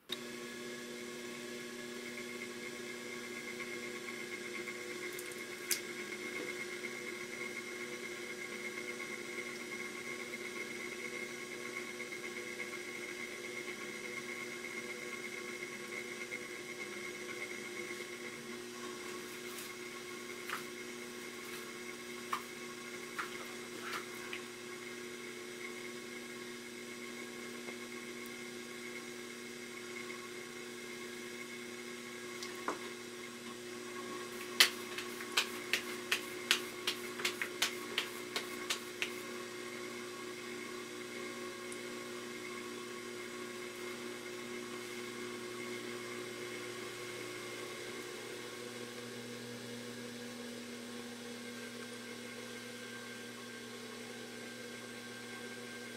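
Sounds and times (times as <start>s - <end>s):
potter's wheel motor hum: 0.0s - 55.9s.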